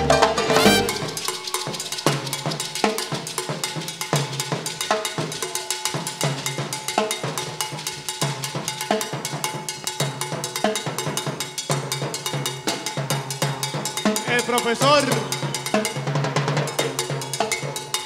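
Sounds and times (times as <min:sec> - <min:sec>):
congas and timbales: 0:00.0 - 0:18.0
cowbell struck in fast rhythm: 0:00.0 - 0:18.0.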